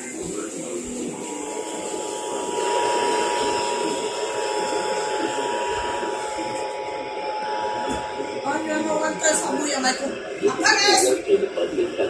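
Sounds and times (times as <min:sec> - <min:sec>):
radio reception hiss: 0:00.0 - 0:12.0.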